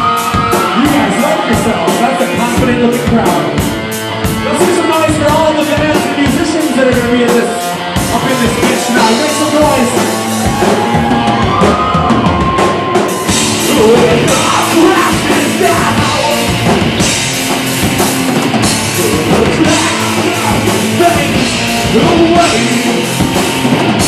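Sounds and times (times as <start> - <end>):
drum kit: 0.0 - 24.0
heavy rock band playing: 0.0 - 24.0.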